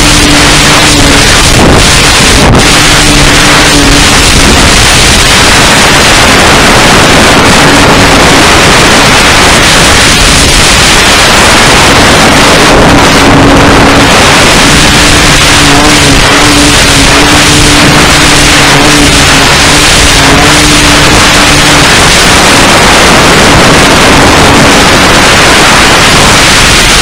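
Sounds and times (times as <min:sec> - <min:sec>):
model airplane motor buzzing: 0:00.0 - 0:27.0
wind rush: 0:00.0 - 0:27.0.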